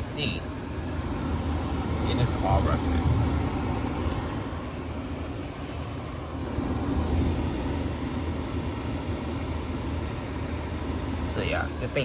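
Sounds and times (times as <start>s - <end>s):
dehumidifier humming with fan: 0.0s - 12.0s.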